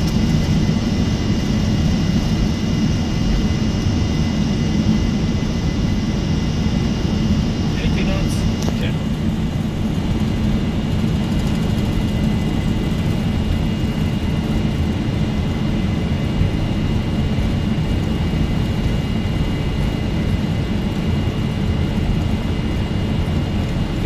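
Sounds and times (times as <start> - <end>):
jet engines low rumble: 0.0 - 24.0.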